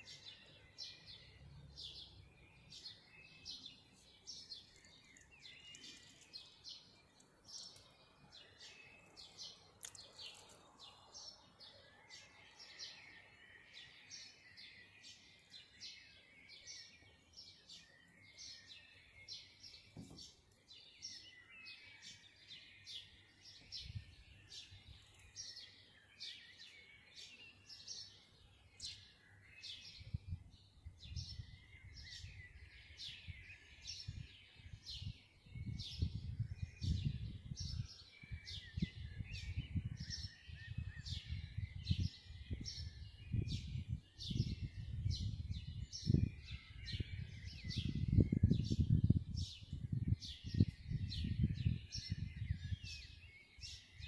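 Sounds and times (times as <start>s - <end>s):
birds chirping and tweeting: 0.0s - 54.0s.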